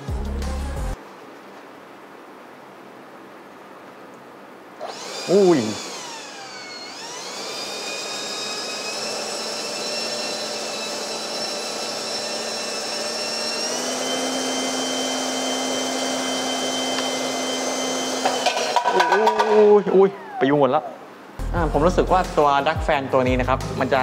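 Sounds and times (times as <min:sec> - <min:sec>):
electric ducted fan whine: 0:00.0 - 0:24.0.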